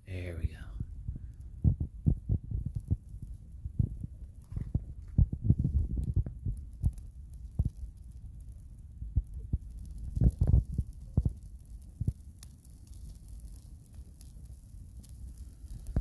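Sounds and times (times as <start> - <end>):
fire rumbling flutter: 0.0 - 16.0.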